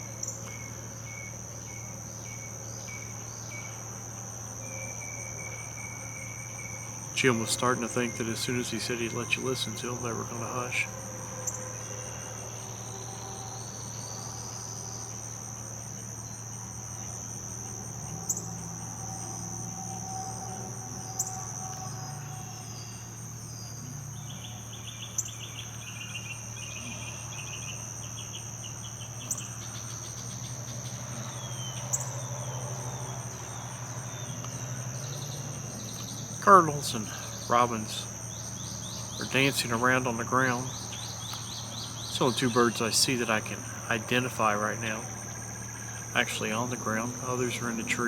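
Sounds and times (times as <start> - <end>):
insect drone: 0.0 - 48.0
low steady hum: 0.0 - 48.0.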